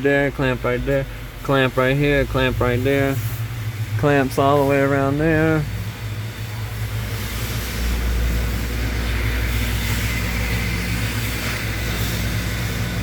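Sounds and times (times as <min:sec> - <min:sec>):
constant hiss: 0:00.0 - 0:13.0
low mechanical hum: 0:00.0 - 0:13.0.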